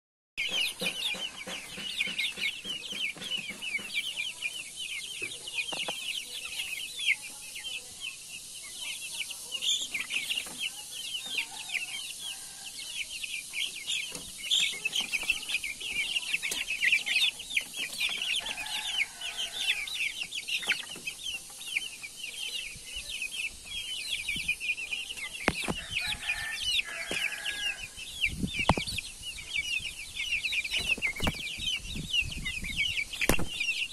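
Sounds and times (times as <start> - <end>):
chicken clucks: 0.4 - 33.9
chicks peeping: 0.4 - 33.9.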